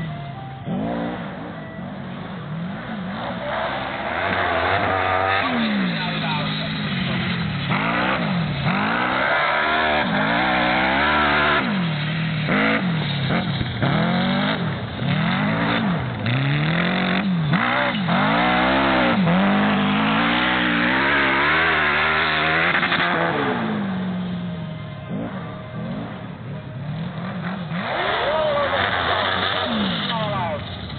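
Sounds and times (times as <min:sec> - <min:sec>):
racing tractor engine revving: 0:00.0 - 0:30.9.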